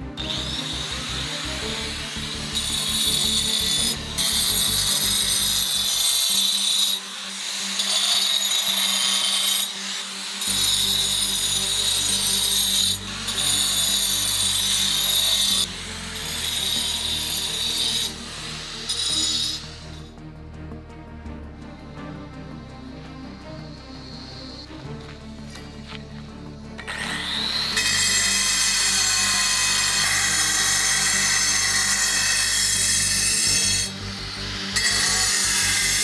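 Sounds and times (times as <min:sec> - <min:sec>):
angle grinder cutting stone: 0:00.0 - 0:20.1, 0:23.3 - 0:26.1, 0:26.8 - 0:36.0
background music: 0:00.0 - 0:36.0.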